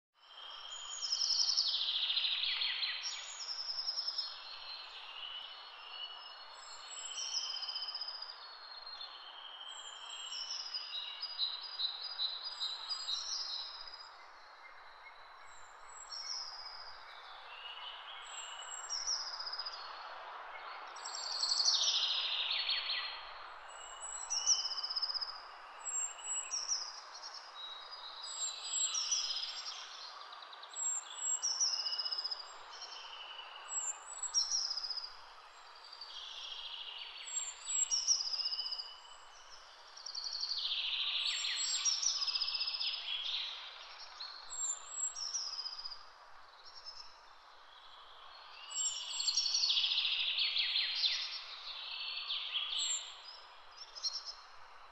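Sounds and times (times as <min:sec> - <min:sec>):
background hiss: 0:00.2 - 0:54.9.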